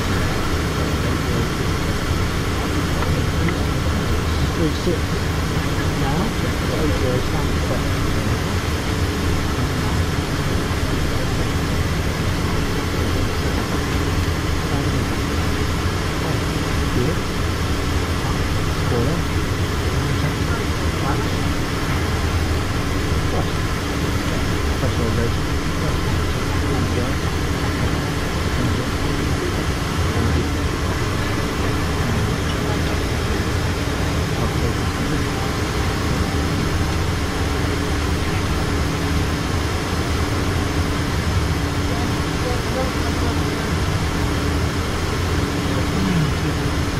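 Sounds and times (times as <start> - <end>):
airflow rushing over cabin: 0.0 - 46.9
jet engine hum: 0.0 - 46.9.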